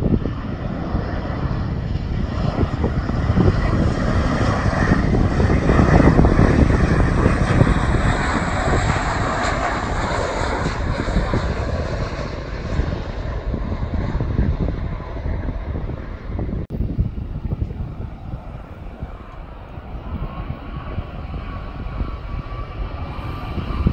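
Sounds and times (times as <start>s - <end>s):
jet engine roar: 0.0s - 23.9s.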